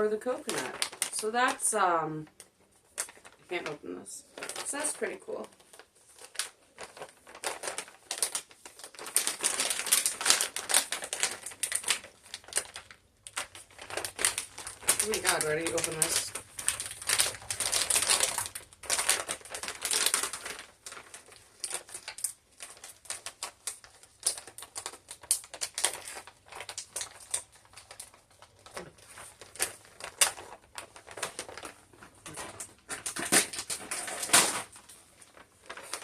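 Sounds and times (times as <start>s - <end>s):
plastic wrapper crinkling: 0.0s - 36.0s
wrapper tearing: 0.2s - 1.7s, 2.4s - 36.0s.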